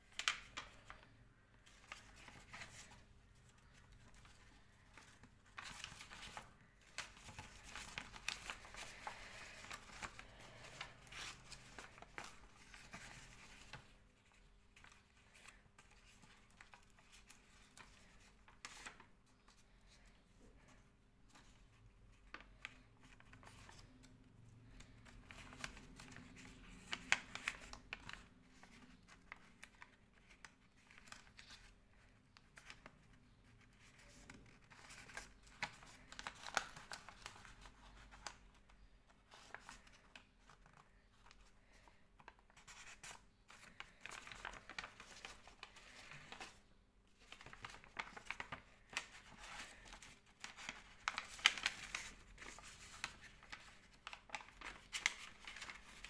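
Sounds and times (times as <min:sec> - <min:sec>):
paper rustling and crinkling: 0:00.0 - 0:56.0.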